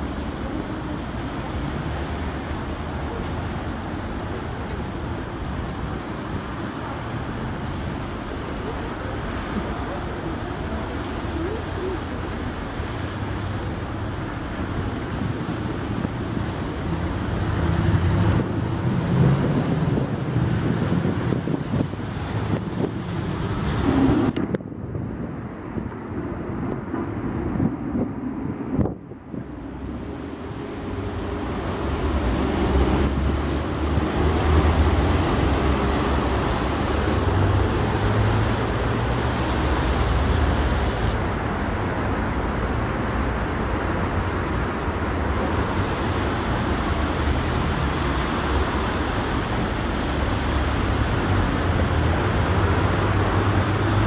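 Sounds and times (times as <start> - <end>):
street traffic passing: 0.0 - 54.0.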